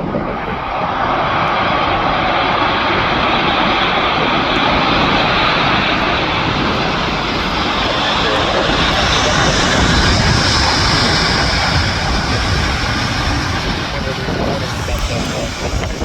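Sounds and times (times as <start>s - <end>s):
aircraft engines running: 0.0s - 16.0s.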